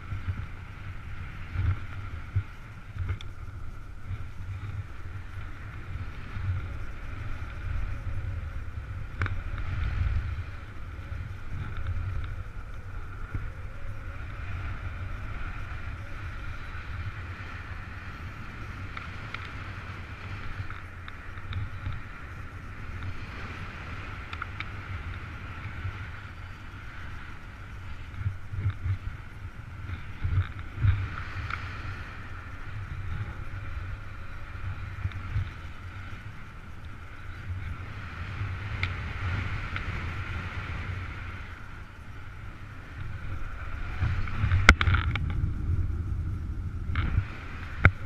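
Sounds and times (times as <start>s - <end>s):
wind rushing over microphone: 0.0s - 48.0s.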